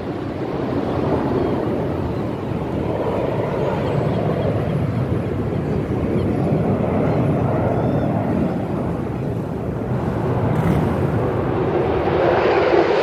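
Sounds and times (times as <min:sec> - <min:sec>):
distant aircraft engine rumble: 0:00.0 - 0:13.0.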